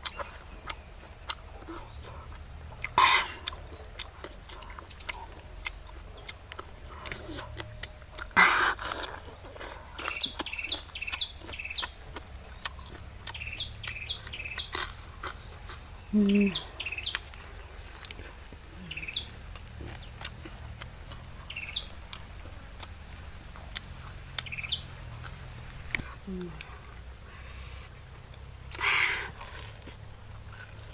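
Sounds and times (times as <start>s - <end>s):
bird chirping: 0.0s - 8.3s, 9.0s - 26.8s.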